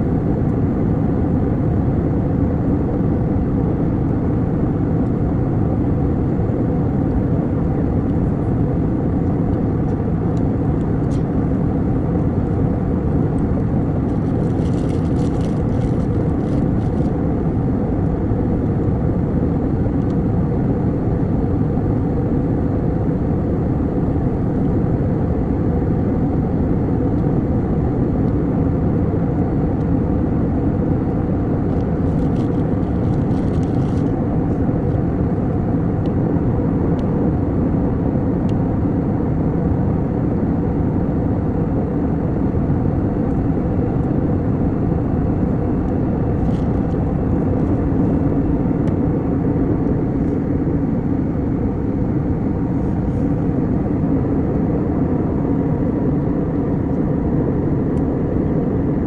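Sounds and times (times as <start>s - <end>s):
airliner cabin engine noise: 0.0s - 59.0s.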